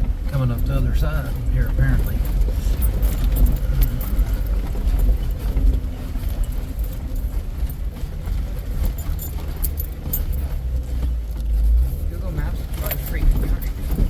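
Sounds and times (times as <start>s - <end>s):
engine and drivetrain rumble: 0.0s - 14.0s
rattles in vehicle: 0.0s - 14.0s.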